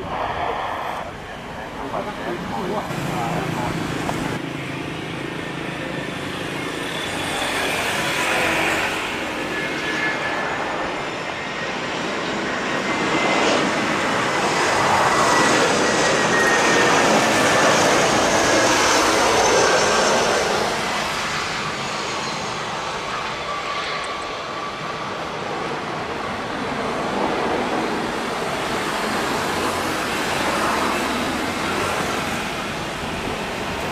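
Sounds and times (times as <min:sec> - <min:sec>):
jet engines rushing: 0:00.0 - 0:33.9.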